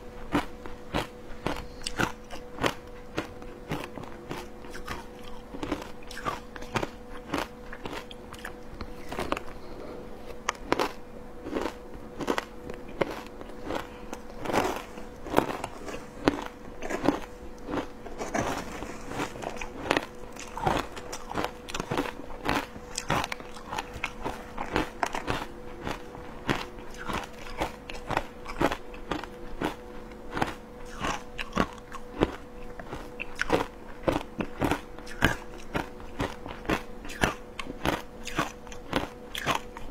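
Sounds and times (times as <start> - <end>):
crunching and chewing shaved ice: 0.0 - 39.9
faint steady hum: 0.0 - 39.9.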